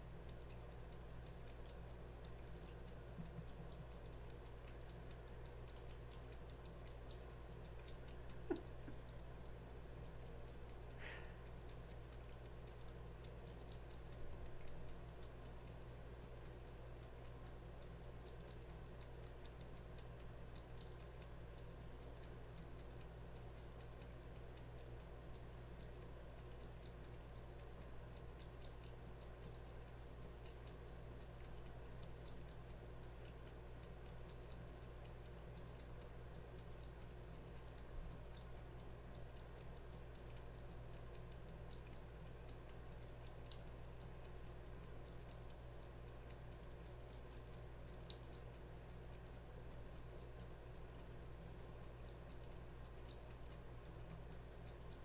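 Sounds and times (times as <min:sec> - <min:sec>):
cat lapping water: 0:00.0 - 0:55.0
faucet water trickling into sink: 0:00.0 - 0:55.0.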